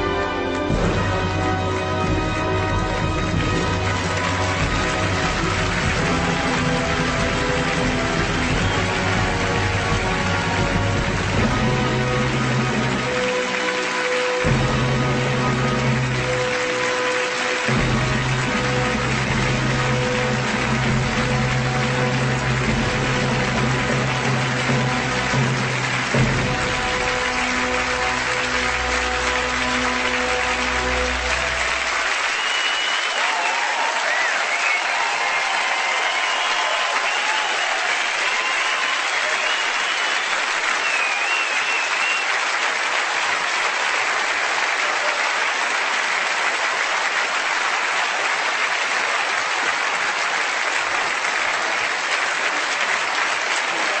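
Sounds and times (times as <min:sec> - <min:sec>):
audience applauding: 0:00.0 - 0:54.0
music: 0:00.0 - 0:54.0.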